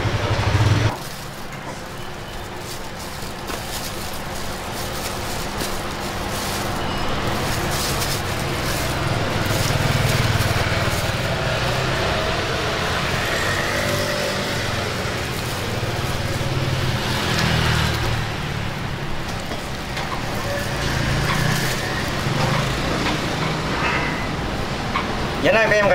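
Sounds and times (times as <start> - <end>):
street traffic rumble: 0.0 - 25.9.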